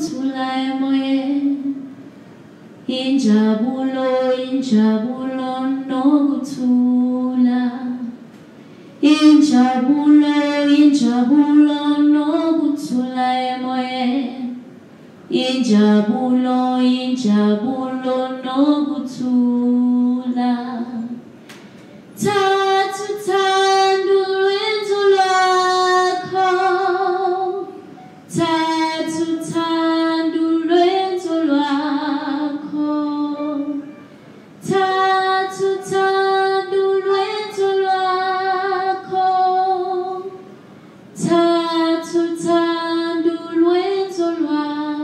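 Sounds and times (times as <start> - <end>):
woman singing unaccompanied: 0.0 - 1.9, 2.8 - 8.2, 9.0 - 14.7, 15.3 - 21.2, 22.2 - 34.0, 34.6 - 40.5, 41.2 - 45.0.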